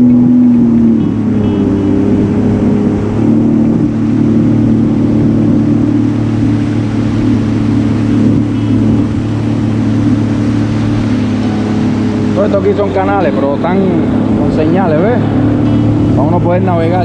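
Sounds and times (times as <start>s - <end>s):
personal watercraft engine running: 0.0s - 17.0s.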